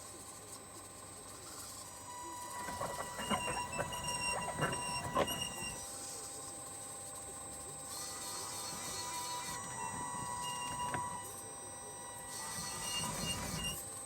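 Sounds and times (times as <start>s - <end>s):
small electric motors whirring: 1.3s - 6.5s, 7.1s - 14.0s.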